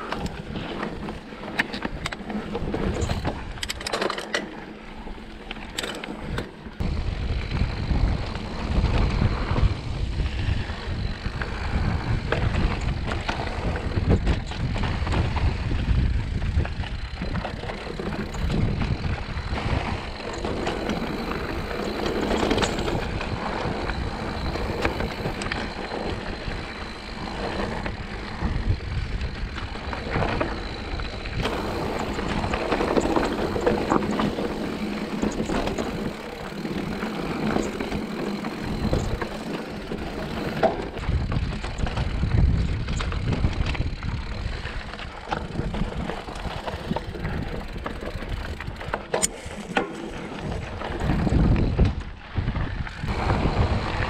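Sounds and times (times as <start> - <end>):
wind rumbling on microphone: 0.0 - 3.9, 6.3 - 54.0
bicycle tyres rolling on dirt: 0.0 - 54.0
bike clicks and rattles: 0.0 - 54.0.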